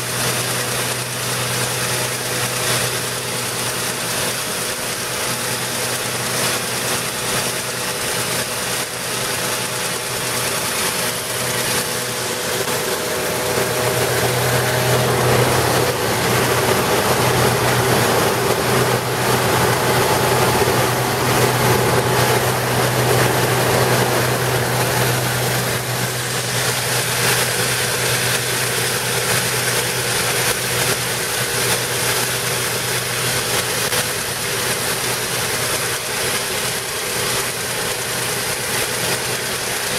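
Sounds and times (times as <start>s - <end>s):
high-pressure water blasting hiss: 0.0s - 39.9s
truck engine and pump running: 0.0s - 39.9s.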